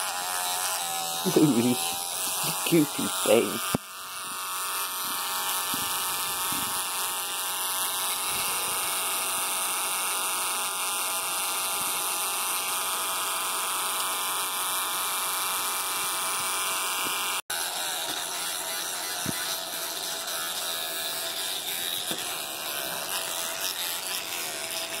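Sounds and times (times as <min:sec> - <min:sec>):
electric toothbrush buzzing: 0:00.0 - 0:25.0.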